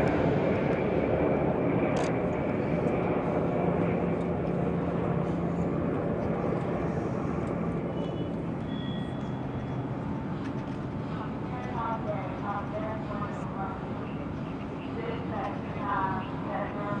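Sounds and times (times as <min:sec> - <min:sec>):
crane engine droning: 0:00.0 - 0:17.0.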